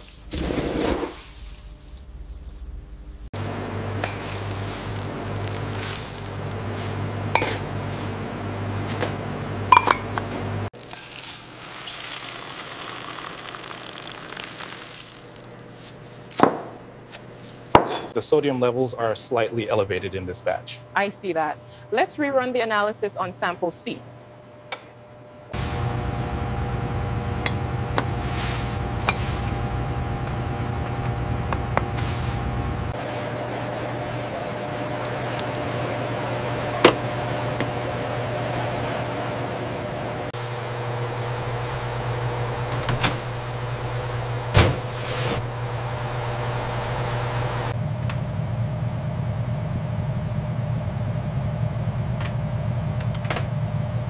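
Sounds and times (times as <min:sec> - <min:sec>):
machine hum: 0:01.6 - 0:17.1, 0:24.0 - 0:54.0.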